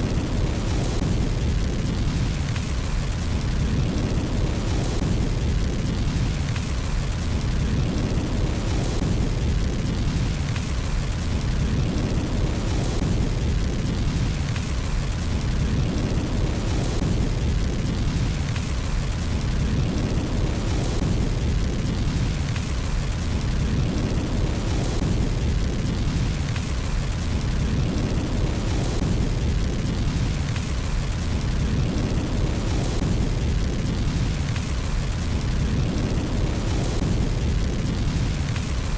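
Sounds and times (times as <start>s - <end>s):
fire roaring and crackling: 0.0s - 38.9s.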